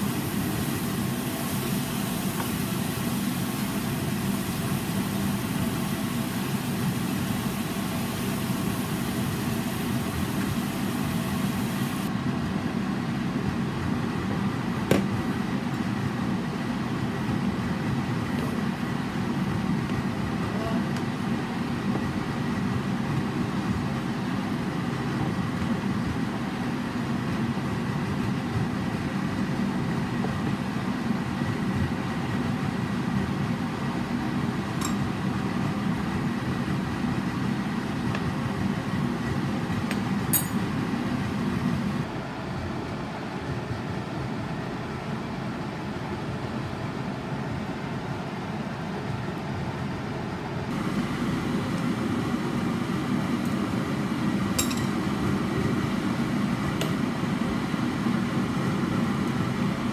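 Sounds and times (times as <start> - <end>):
gas flame and simmering sauce: 0.0 - 59.9.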